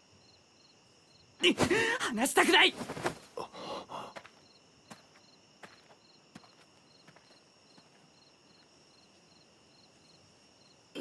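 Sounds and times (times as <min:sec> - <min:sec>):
crickets chirping: 0:00.0 - 0:11.0
high insect trill: 0:00.0 - 0:11.0.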